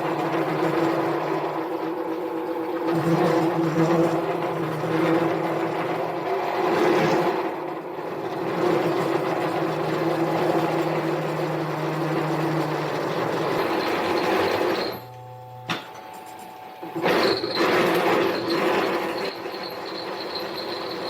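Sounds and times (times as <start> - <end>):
lathe running: 0.0 - 21.0.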